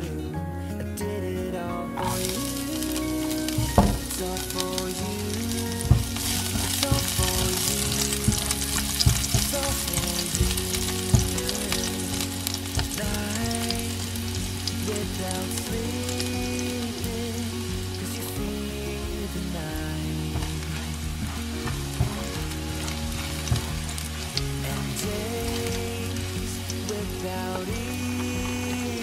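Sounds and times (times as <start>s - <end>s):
beef sizzling in a pan: 2.0s - 18.0s, 20.2s - 29.0s.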